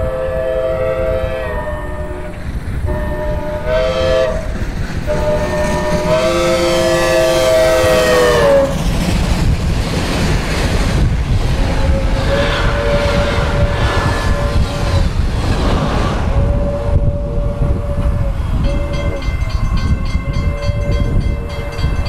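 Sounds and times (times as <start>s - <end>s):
steam locomotive whistle blasts: 0.0s - 8.8s, 11.6s - 15.2s, 16.3s - 22.0s
low train rumble: 0.0s - 22.0s.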